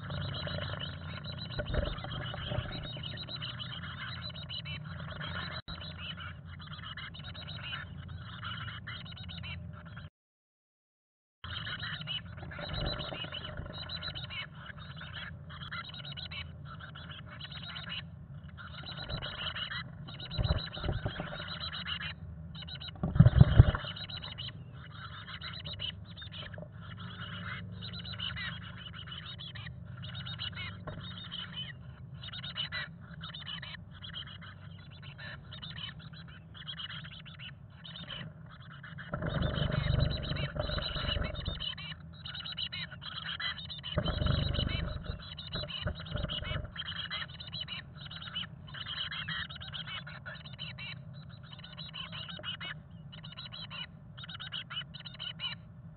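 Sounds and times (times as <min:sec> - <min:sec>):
nestlings chirping: 0:00.0 - 0:10.0, 0:11.5 - 0:55.7.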